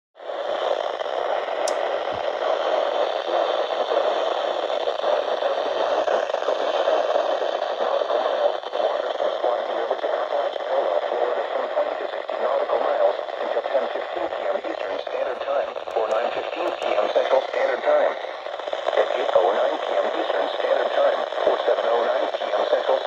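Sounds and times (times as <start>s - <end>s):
radio static hiss: 0.2s - 23.0s.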